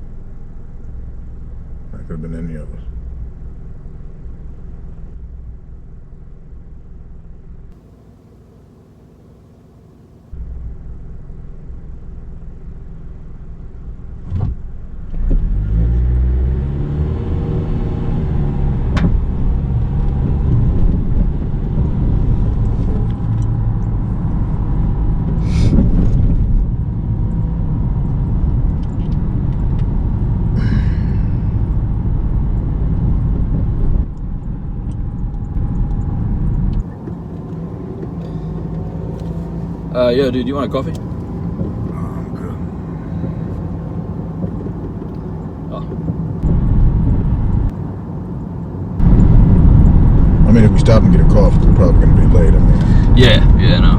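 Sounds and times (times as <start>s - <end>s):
road noise: 0.0s - 53.9s
car engine pulling away: 2.9s - 53.9s.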